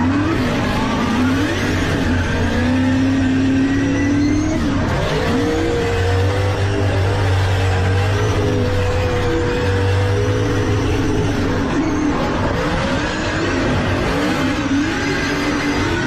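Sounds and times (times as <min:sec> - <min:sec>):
car engine revving hard: 0:00.0 - 0:16.0.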